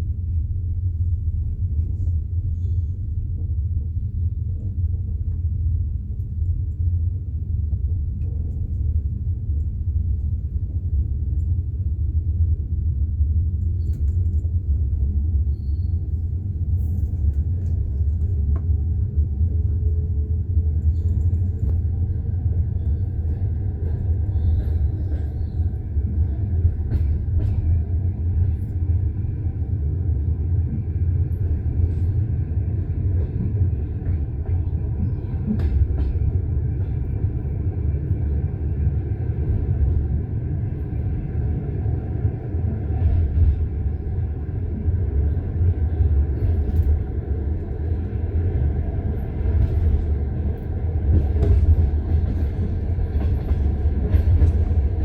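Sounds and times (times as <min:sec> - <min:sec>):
train coach rumbling on track: 0:00.0 - 0:55.0.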